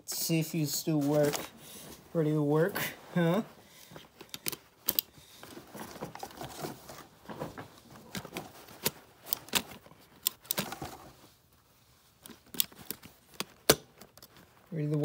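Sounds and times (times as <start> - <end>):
leather glove rustling: 0.6 - 15.0.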